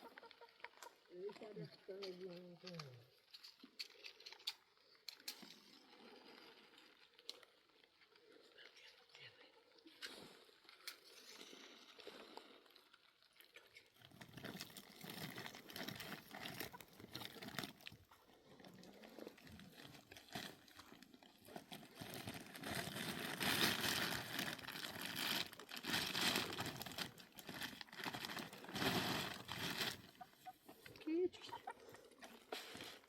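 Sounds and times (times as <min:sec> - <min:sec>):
rustling and crinkling: 0:00.0 - 0:33.0.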